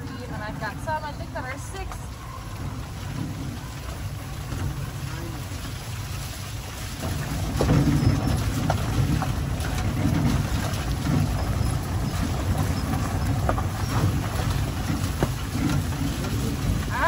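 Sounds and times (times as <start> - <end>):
cart wheels rolling over gravel: 0.0 - 17.0.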